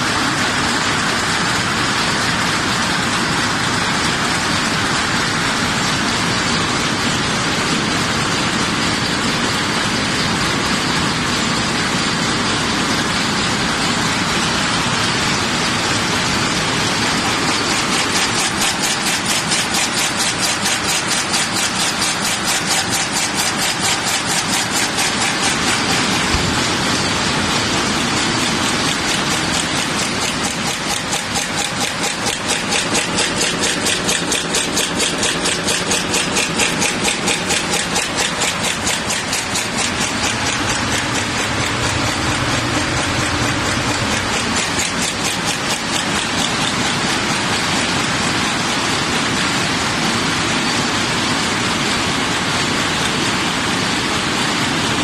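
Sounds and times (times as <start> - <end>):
press machine clattering: 0.0 - 55.0
rapid machine knocking: 0.0 - 55.0.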